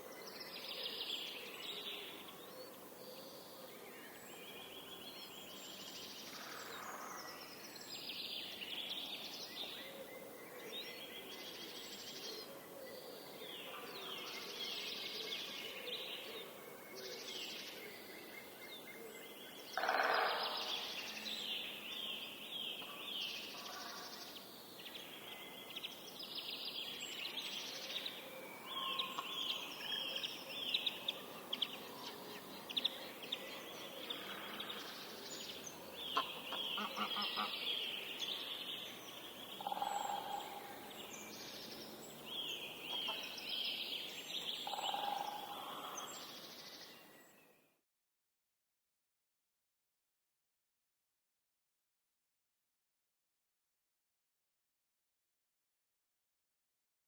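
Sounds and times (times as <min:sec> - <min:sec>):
birds singing and calling: 0:00.0 - 0:47.5.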